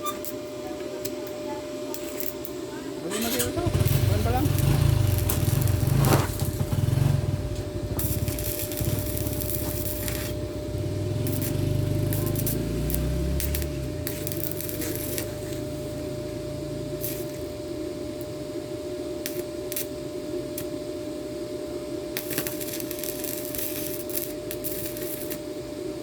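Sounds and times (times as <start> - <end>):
welding arc crackling: 0.0 - 20.8, 22.1 - 26.0
welder hum: 0.0 - 26.0.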